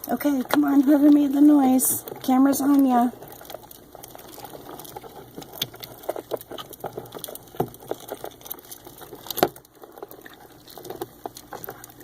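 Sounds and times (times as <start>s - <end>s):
crab shells clicking together: 0.0s - 12.0s.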